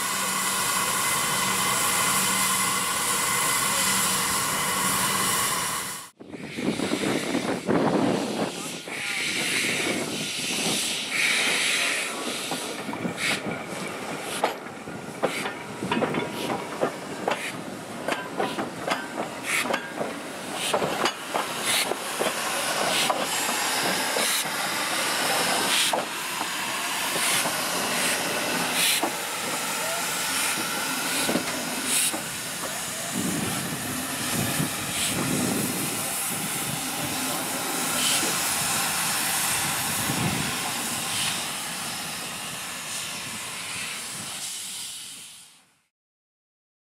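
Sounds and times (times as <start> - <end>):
steam locomotive hissing: 0.0 - 45.8.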